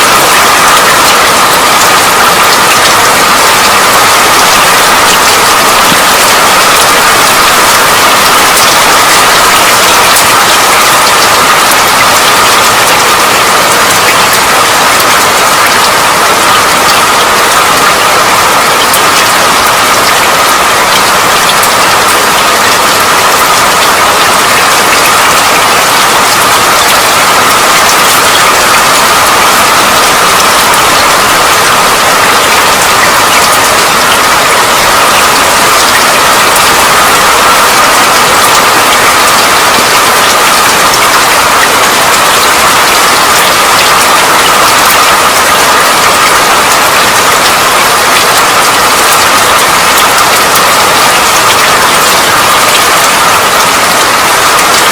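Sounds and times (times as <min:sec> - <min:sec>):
steady rain hissing: 0:00.0 - 0:54.9.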